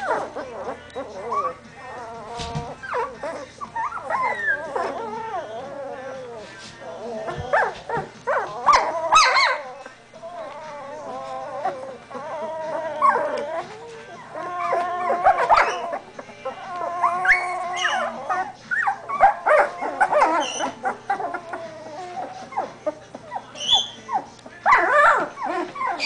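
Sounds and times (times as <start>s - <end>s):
puppies whimpering and whining: 0.0s - 26.0s.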